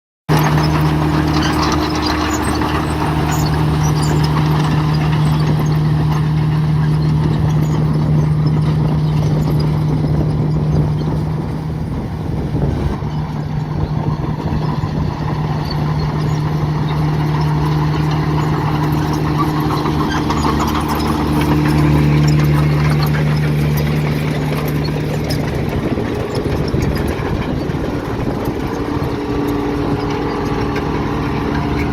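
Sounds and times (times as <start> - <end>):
heavy diesel engine running: 0.3 - 31.9.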